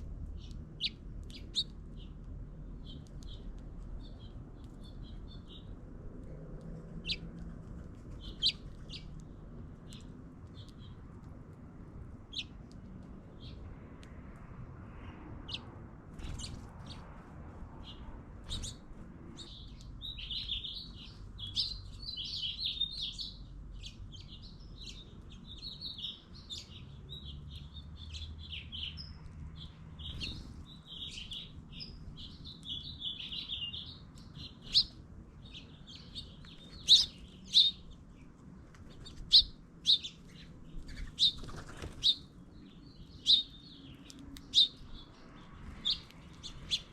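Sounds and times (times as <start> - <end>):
small birds chirping and twittering: 0.0 - 46.9.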